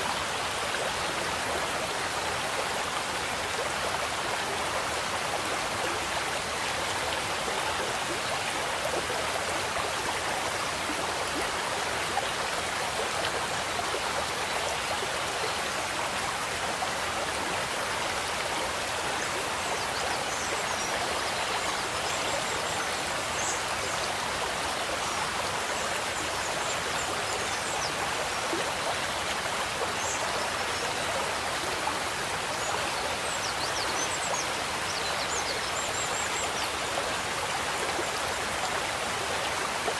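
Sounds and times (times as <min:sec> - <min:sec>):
pond water running and splashing: 0:00.0 - 0:39.9.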